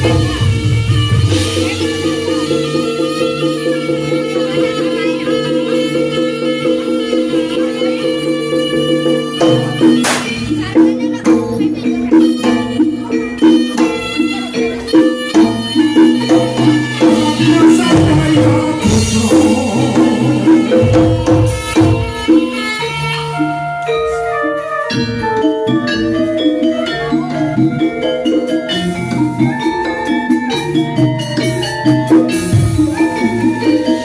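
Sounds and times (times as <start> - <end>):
drumming: 0.0 - 3.6, 9.1 - 34.0
metallophones and gongs: 0.0 - 34.0
rattling percussion: 0.0 - 34.0.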